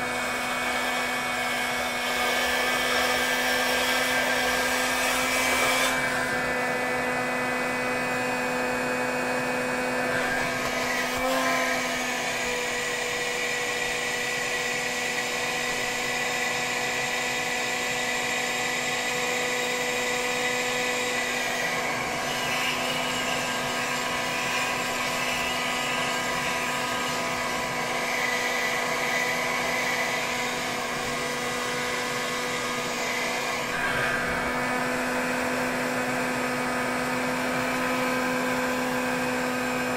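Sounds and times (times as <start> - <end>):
heat gun whirring hum: 0.0 - 39.9.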